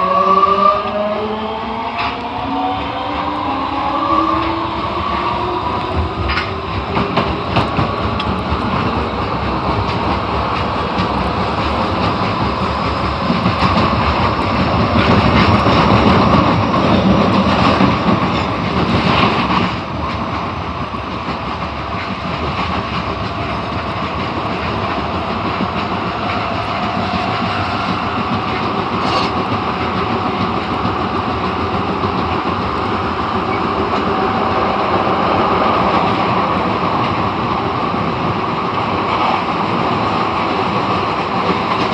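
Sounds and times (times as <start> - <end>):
subway wheels on rail: 0.0 - 41.9.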